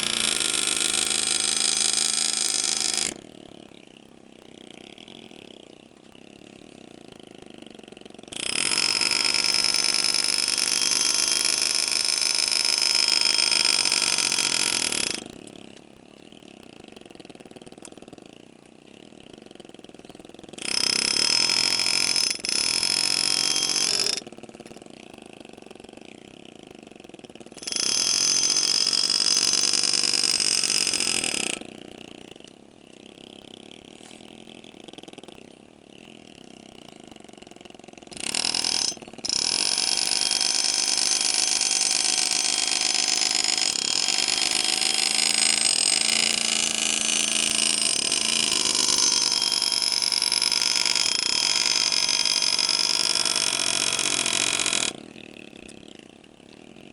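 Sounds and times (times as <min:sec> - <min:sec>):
engraving handpiece buzzing: 0:00.0 - 0:03.5, 0:07.2 - 0:15.6, 0:19.3 - 0:55.9.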